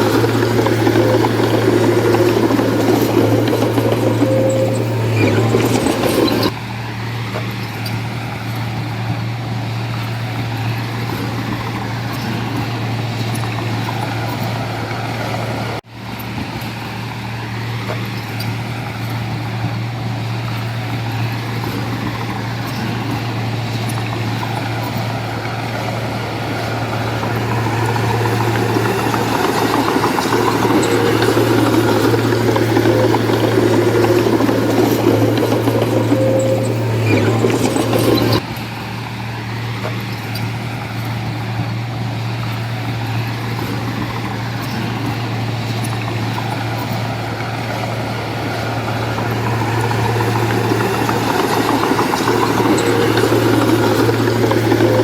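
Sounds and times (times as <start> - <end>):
heavy diesel machinery humming: 0.0 - 55.0.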